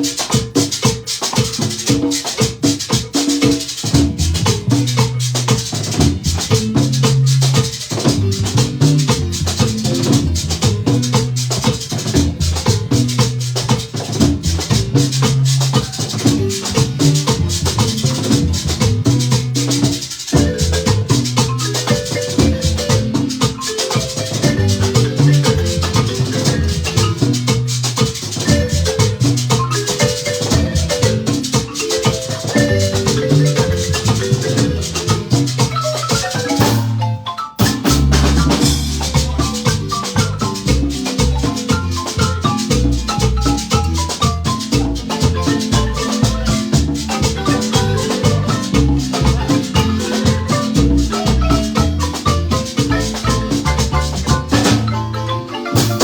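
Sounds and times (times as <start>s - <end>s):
marimba melody: 0.0s - 56.0s
rattling percussion beat: 0.0s - 56.0s
held bass notes: 4.1s - 19.7s, 20.4s - 23.3s, 24.4s - 29.7s, 30.3s - 31.4s, 32.5s - 35.8s, 36.5s - 56.0s.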